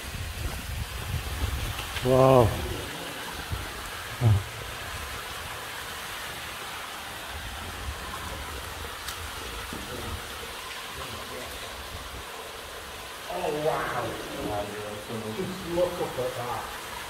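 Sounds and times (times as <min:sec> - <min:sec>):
water running and dripping: 0:00.0 - 0:17.0.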